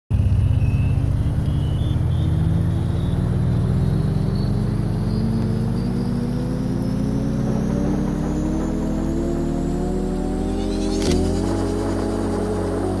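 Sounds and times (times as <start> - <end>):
low droning hum rising in pitch: 0.1 - 13.0.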